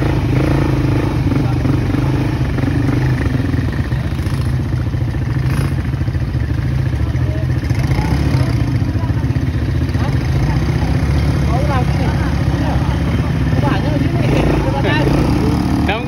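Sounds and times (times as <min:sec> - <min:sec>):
atv engines running: 0:00.0 - 0:16.0.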